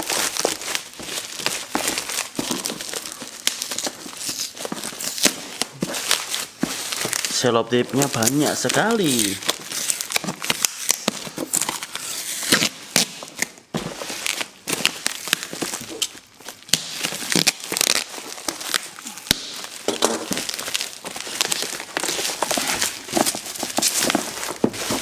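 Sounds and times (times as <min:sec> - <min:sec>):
bubble wrap crackling: 0:00.0 - 0:25.0.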